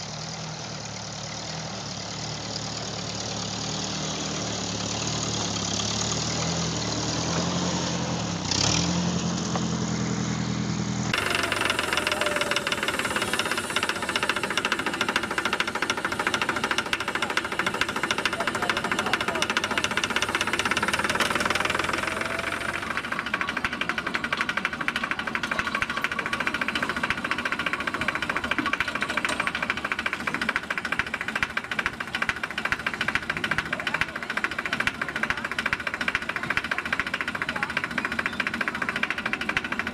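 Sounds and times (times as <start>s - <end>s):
diesel tractor engine clatter: 0.0s - 39.9s
tractor engine running: 0.0s - 39.9s.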